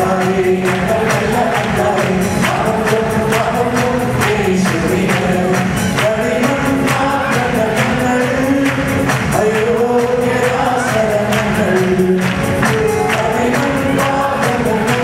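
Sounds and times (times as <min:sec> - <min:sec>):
electronic keyboard: 0:00.0 - 0:15.0
percussion beat: 0:00.0 - 0:15.0.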